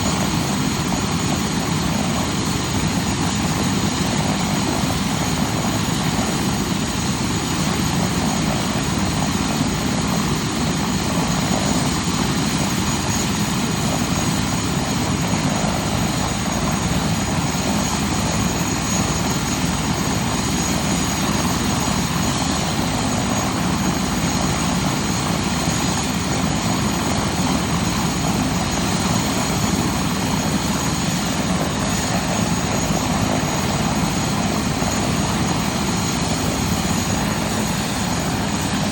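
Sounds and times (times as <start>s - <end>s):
helicopter engines and rotor running: 0.0s - 38.9s
high turbine whine: 0.0s - 38.9s.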